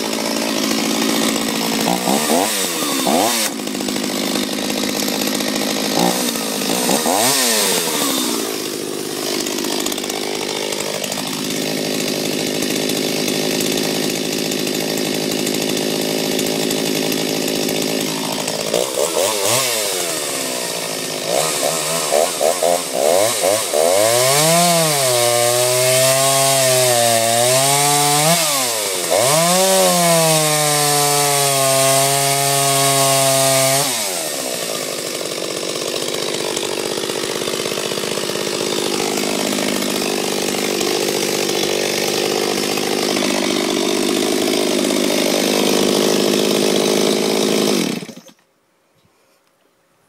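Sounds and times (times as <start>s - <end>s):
chainsaw idling: 0.0s - 48.4s
chainsaw cutting log: 0.0s - 48.5s.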